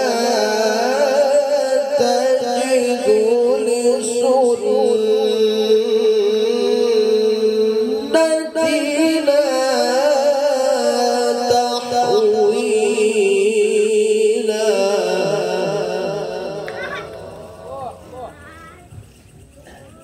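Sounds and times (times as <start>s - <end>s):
man chanting through a microphone: 0.0s - 18.4s.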